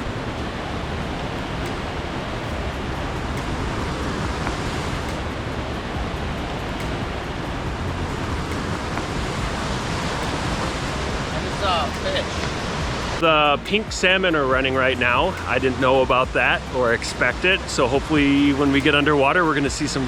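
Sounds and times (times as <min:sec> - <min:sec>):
deep water rumble: 0:00.0 - 0:20.0
water rushing: 0:00.0 - 0:20.0.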